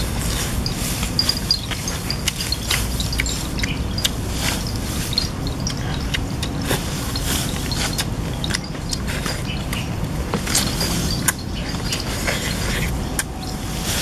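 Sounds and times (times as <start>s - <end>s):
low background rumble: 0.0s - 14.0s
person chewing food: 0.0s - 14.0s.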